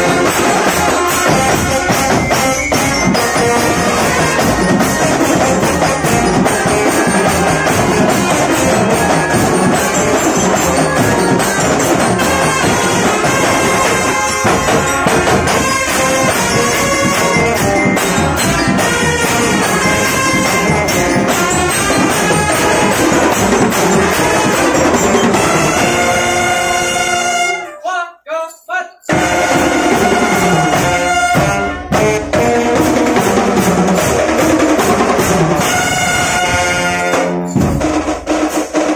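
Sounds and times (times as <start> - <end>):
snare and bass drums: 0.0 - 27.3, 29.1 - 38.9
trumpets and brass: 0.0 - 38.0.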